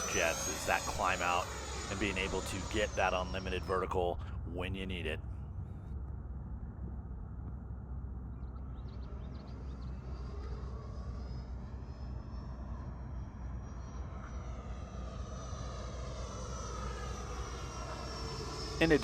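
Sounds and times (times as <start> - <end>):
jet fan rush and whine: 0.0 - 19.0.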